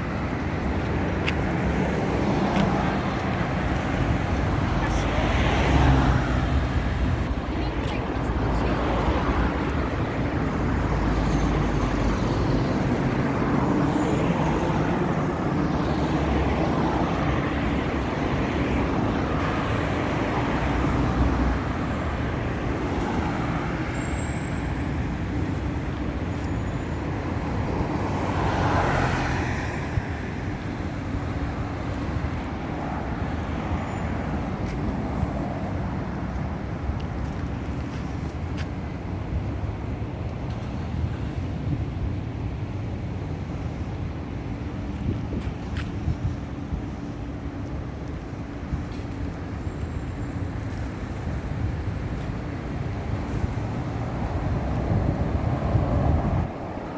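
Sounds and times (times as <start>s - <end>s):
road traffic: 0.0s - 56.9s.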